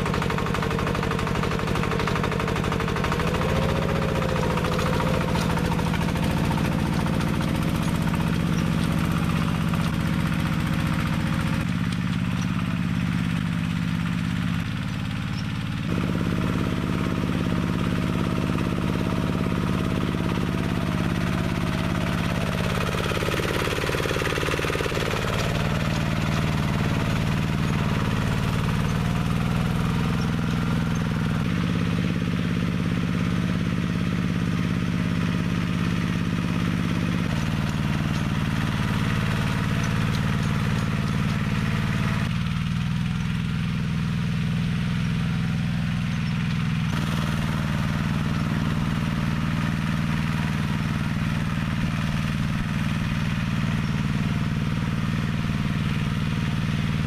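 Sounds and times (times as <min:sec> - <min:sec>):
small tractor engine running: 0:00.0 - 0:57.0.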